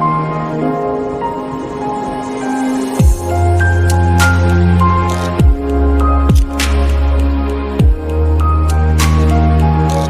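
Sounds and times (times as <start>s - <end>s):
soft music of held notes: 0.0s - 10.0s.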